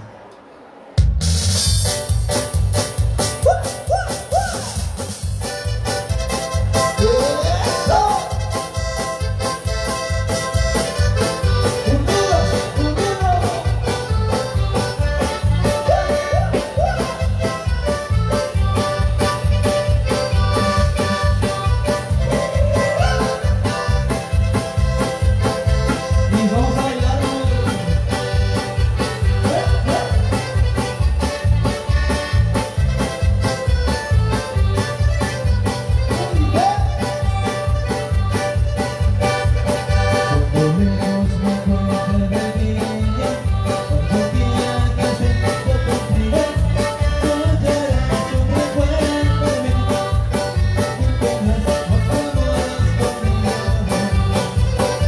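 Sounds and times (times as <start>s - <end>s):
live band playing: 0.0s - 55.0s
bass: 1.0s - 55.0s
keyboard melody: 1.0s - 55.0s.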